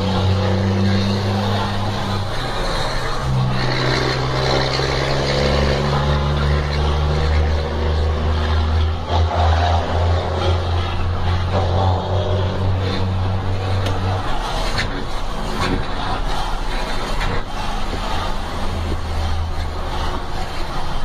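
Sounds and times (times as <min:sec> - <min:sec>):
car engine humming inside cabin: 0:00.0 - 0:21.0.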